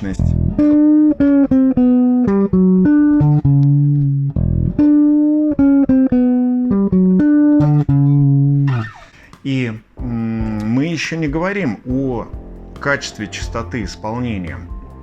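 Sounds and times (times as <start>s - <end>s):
electric bass guitar plucking: 0.0s - 15.0s.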